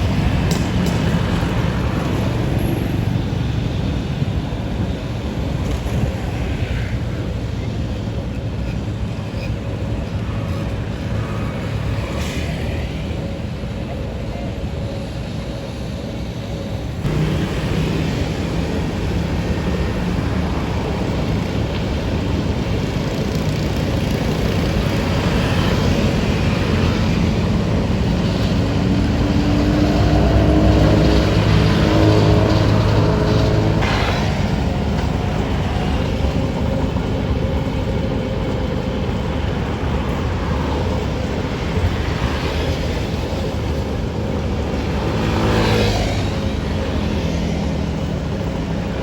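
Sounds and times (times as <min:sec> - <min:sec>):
higher engine tone: 0:00.0 - 0:23.0, 0:24.6 - 0:49.0
heavy diesel machinery rumbling: 0:00.0 - 0:49.0.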